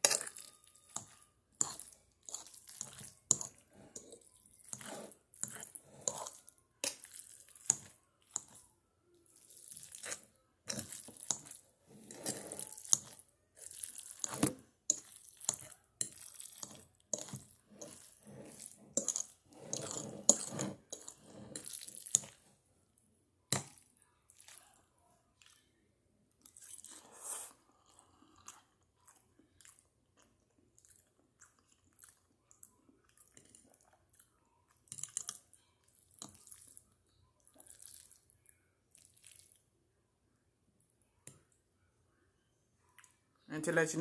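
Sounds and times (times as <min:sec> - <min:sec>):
person chewing spaghetti: 0:00.0 - 0:22.6, 0:26.4 - 0:39.6.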